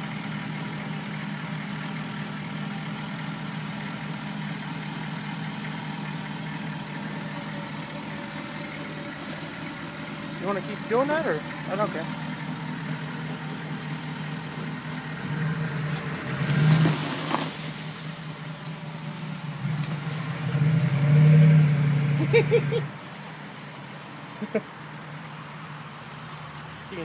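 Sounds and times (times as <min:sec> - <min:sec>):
diesel truck engine revving: 0:00.0 - 0:27.0.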